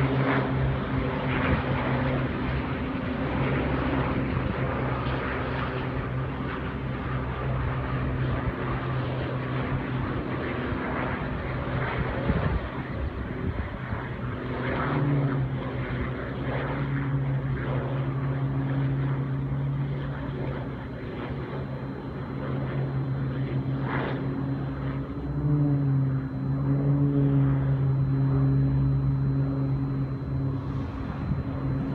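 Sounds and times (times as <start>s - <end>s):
propeller aircraft engine droning: 0.0s - 31.9s.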